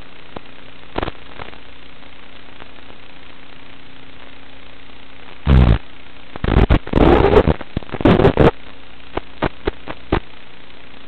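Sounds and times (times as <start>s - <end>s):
crackling static bursts: 0.0s - 11.0s
steady radio hiss: 0.0s - 11.0s.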